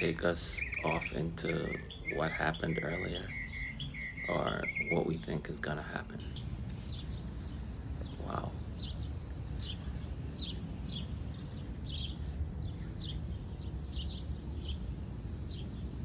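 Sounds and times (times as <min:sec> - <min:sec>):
steady low rumble: 0:00.0 - 0:15.8
songbirds chirping: 0:00.0 - 0:16.0.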